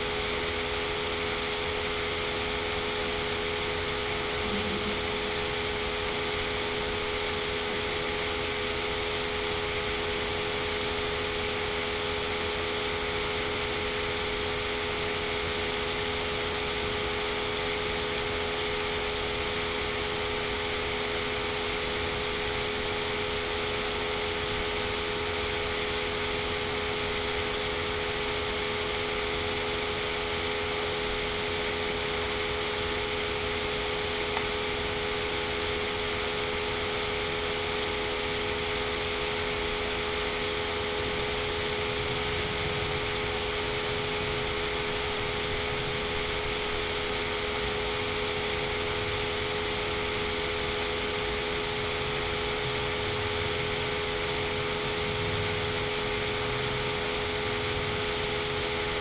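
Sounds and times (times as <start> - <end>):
background hum and hiss: 0.0 - 59.0.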